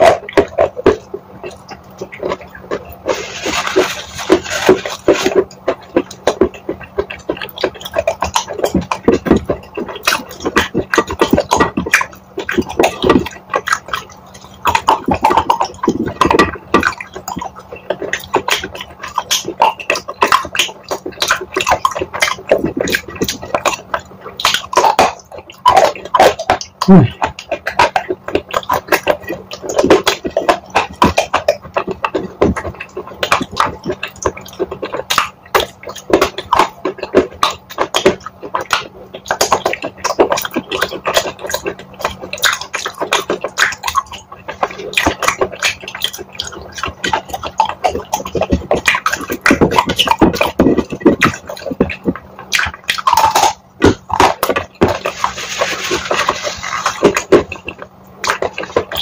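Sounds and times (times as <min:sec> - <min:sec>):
mouth smacks: 0:00.0 - 0:59.0
wet chewing crunches: 0:00.0 - 0:59.0.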